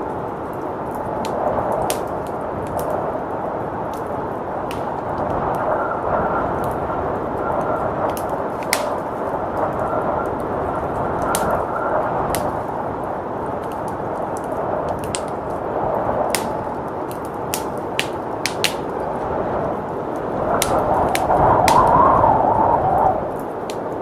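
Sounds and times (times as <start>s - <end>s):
rushing blizzard wind: 0.0s - 24.0s
wood fire crackling and popping: 0.0s - 24.0s.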